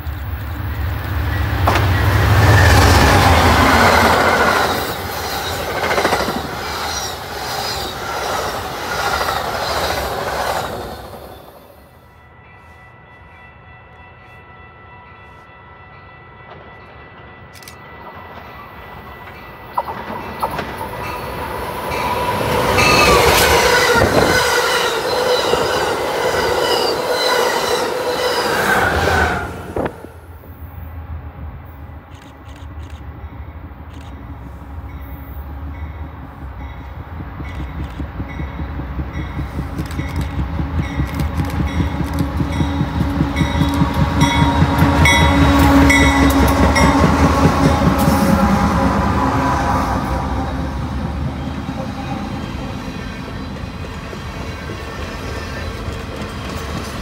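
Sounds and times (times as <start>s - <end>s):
train wheels rumbling on rails: 0.0s - 14.3s, 15.1s - 30.3s, 31.1s - 57.0s.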